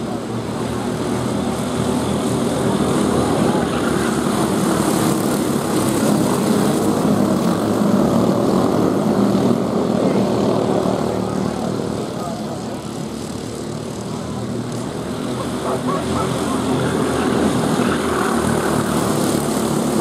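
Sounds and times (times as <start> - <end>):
racing kart engines running hard: 0.0 - 20.0.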